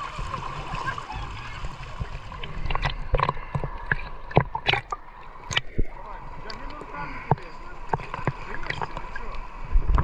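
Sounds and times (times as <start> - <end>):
sea water sloshing: 0.0 - 10.0.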